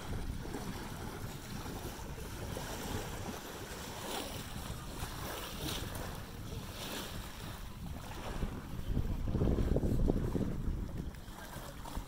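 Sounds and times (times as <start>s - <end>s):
water lapping below jetty: 0.0s - 12.0s
wind buffeting microphone: 0.0s - 12.0s.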